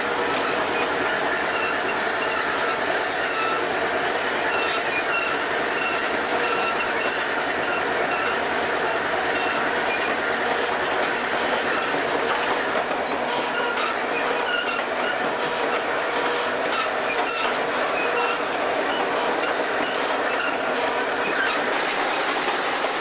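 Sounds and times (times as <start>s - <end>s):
high wheel squeals: 0.0s - 23.0s
train rumbling and rattling: 0.0s - 23.0s.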